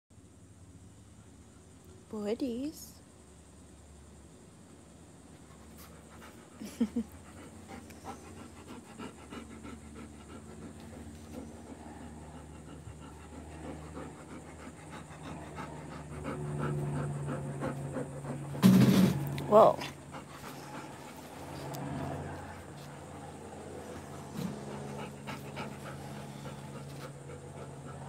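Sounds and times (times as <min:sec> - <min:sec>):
dog panting: 0:05.3 - 0:28.0.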